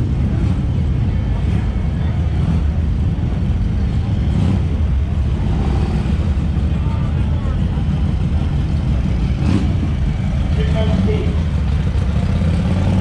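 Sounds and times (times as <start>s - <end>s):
faint voices: 0.0s - 12.1s
motorcycle engines running: 0.0s - 13.0s.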